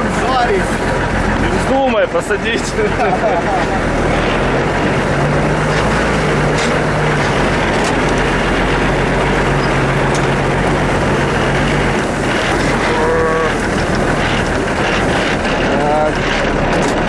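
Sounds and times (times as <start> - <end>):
low drone: 0.0 - 17.0
vehicle engine running: 0.0 - 17.0.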